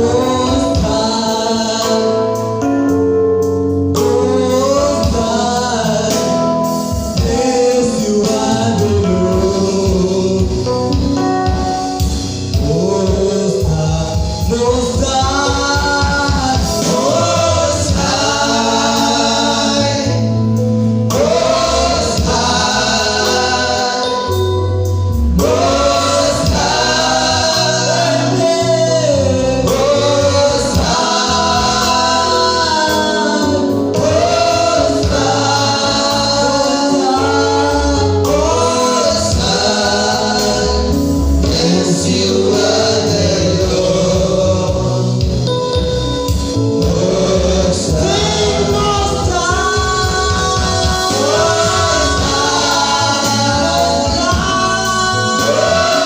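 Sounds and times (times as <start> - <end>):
choir singing: 0.0 - 2.2, 4.2 - 10.4, 14.8 - 45.2, 46.6 - 56.0
bass line: 0.0 - 56.0.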